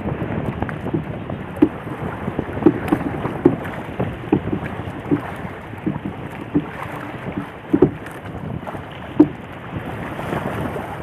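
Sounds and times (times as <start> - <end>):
paddle knocking and splashing: 0.0 - 11.0
wind buffeting microphone: 0.0 - 11.0.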